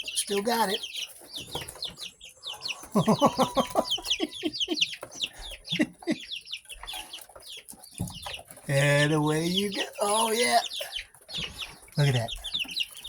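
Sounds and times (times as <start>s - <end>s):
chicks peeping and clucking: 0.0s - 13.0s.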